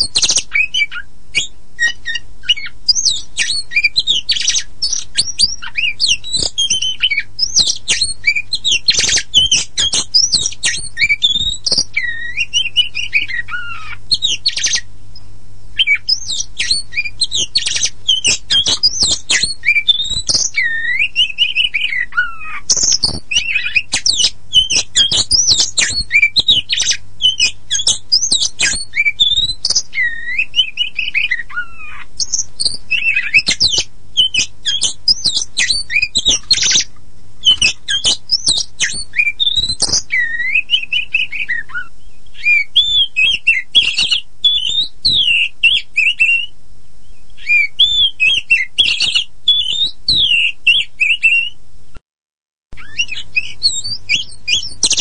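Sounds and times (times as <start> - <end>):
magpie-robin singing: 0.0 - 51.6, 52.7 - 55.0.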